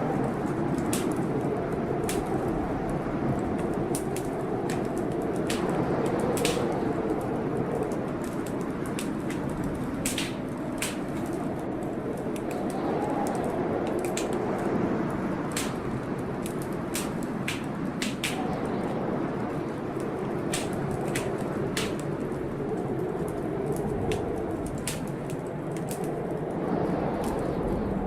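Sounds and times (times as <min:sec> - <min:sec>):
rushing storm: 0:00.0 - 0:28.0
wood fire crackling and popping: 0:00.0 - 0:28.0.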